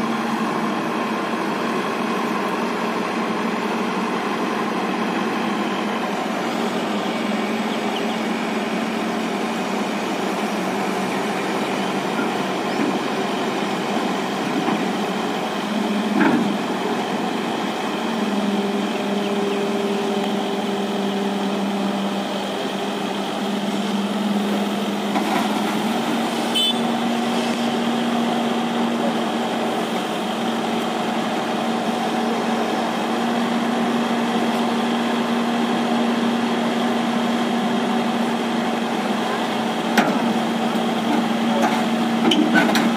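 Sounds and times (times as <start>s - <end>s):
excavator diesel engine under load: 0.0s - 42.9s.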